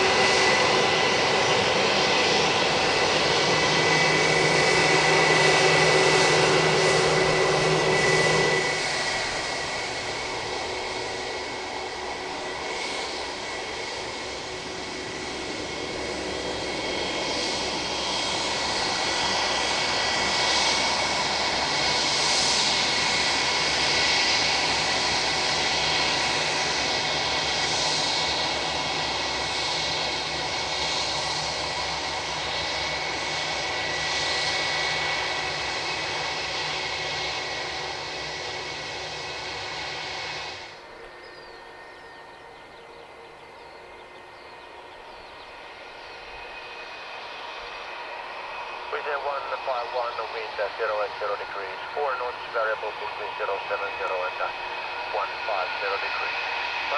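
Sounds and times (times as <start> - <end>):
jet engines idling: 0.0 - 56.9.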